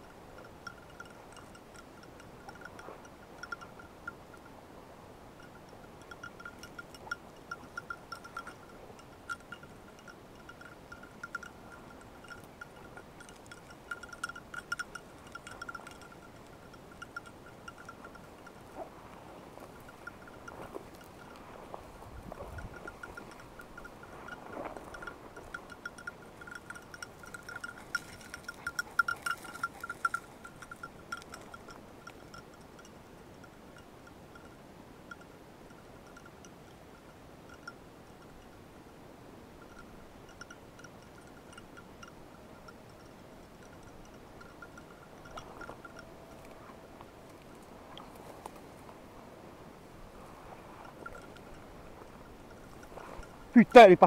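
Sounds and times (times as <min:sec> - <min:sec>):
dog collar bell ringing: 0:00.0 - 0:04.6, 0:05.4 - 0:18.9, 0:19.6 - 0:47.0, 0:50.8 - 0:54.0.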